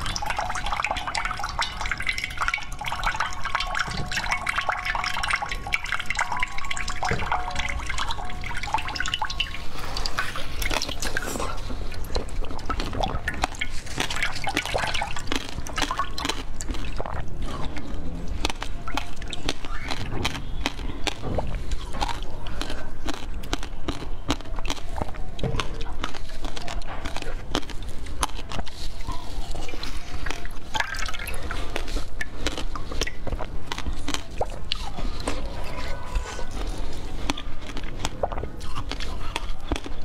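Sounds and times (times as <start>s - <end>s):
wet mouth clicks and smacks: 0.0s - 40.0s
wet slurping and sucking: 0.0s - 40.0s.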